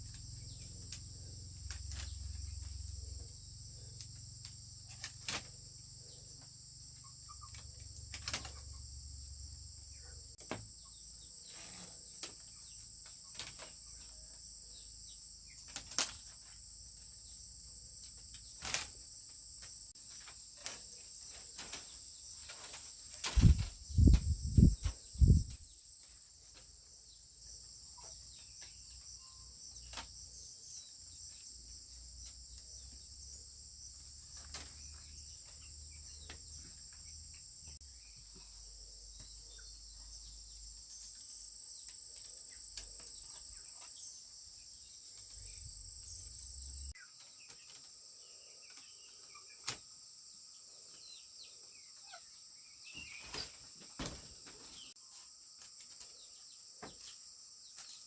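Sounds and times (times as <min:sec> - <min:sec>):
high drone of insects: 0:00.0 - 0:58.0.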